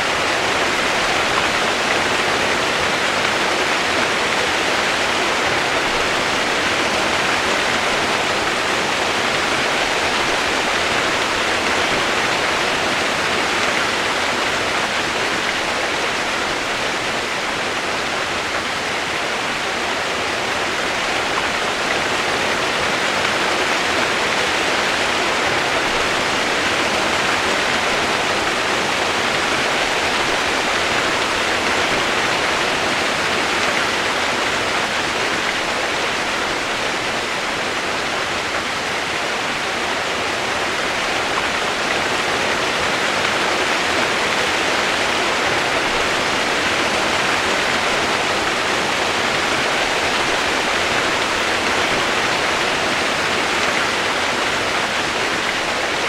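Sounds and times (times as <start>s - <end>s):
rushing water roar: 0.0s - 56.0s.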